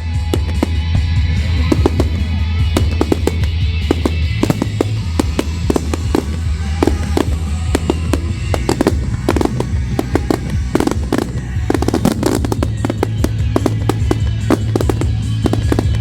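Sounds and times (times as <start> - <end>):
fireworks bangs and crackles: 0.0 - 16.0
loud music with heavy bass: 0.0 - 16.0.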